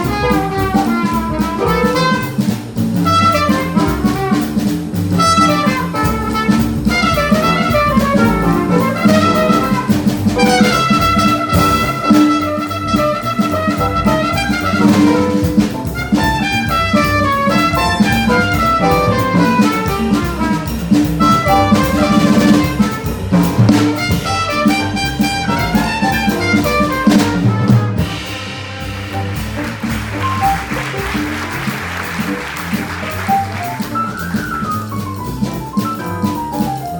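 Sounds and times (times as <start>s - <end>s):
alto saxophone: 0.0s - 35.0s
trumpet: 0.0s - 36.6s
bass: 0.0s - 36.9s
drum kit: 0.0s - 36.9s
piano: 0.0s - 36.9s.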